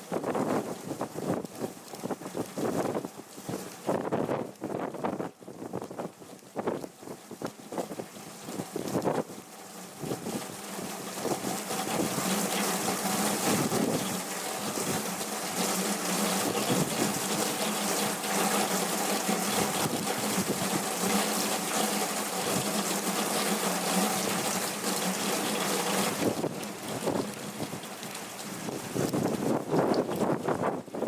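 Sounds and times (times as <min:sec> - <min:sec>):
heavy rain pouring: 0:00.0 - 0:31.0
rushing water: 0:00.0 - 0:31.0.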